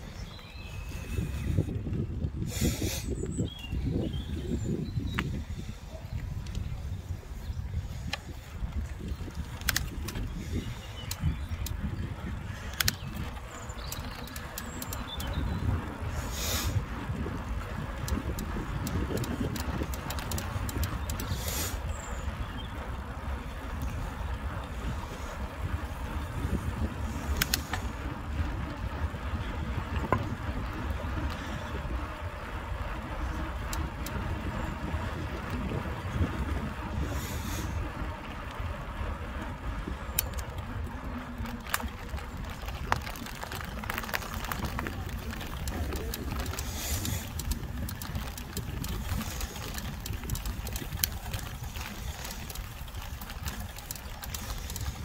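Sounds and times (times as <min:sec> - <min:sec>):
bike tyres rolling on pavement: 0:00.0 - 0:55.0
wind buffeting microphone: 0:00.0 - 0:55.0.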